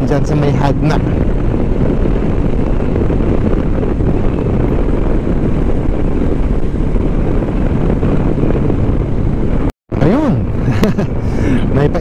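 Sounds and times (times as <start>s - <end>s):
motorcycle engine: 0.0s - 12.0s
wind rush on microphone: 0.0s - 12.0s.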